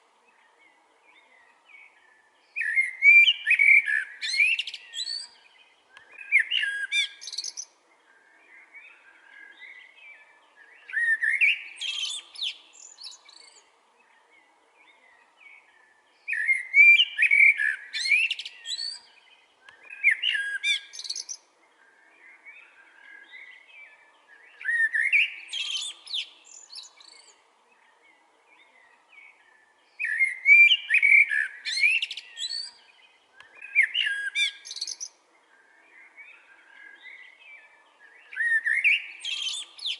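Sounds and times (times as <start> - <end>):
blackbird singing: 0.3 - 39.9.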